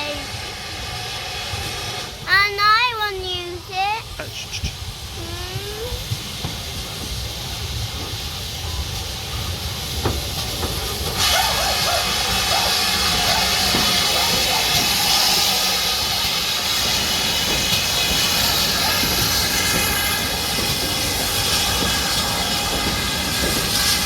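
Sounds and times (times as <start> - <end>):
loud hiss of escaping steam: 0.0 - 24.0
steam locomotive rumble: 0.0 - 24.0.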